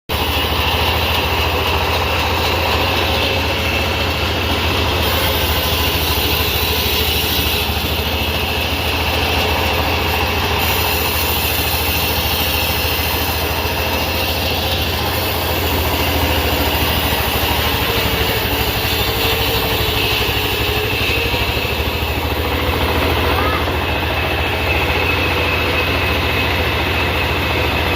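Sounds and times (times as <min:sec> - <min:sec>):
sawmill machinery humming: 0:00.1 - 0:27.9.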